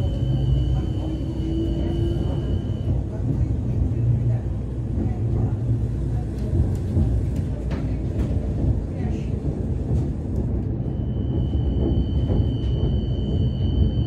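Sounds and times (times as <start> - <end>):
tram rumble: 0.0 - 14.0.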